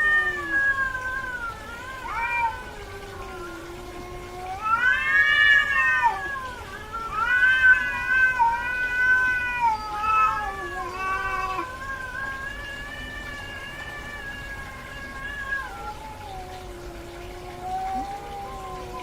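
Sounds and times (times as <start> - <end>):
cat yowling: 0.0 - 19.0.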